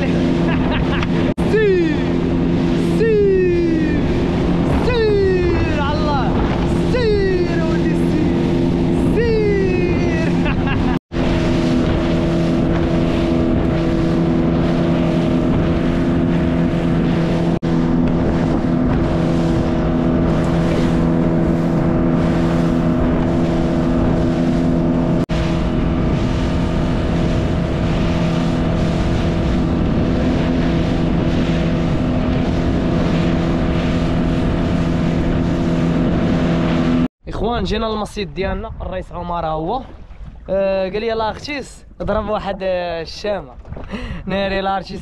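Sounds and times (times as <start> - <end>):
outboard motor running: 0.0 - 37.1.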